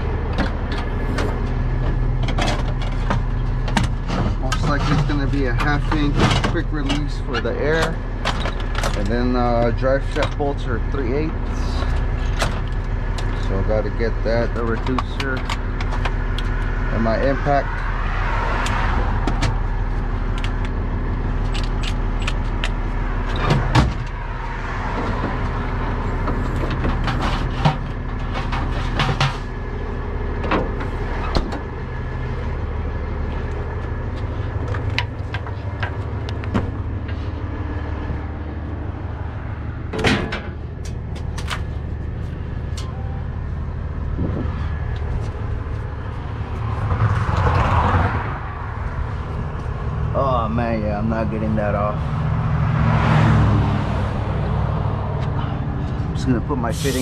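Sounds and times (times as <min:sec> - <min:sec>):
truck engine idling: 0:00.0 - 0:47.5, 0:48.2 - 0:57.0.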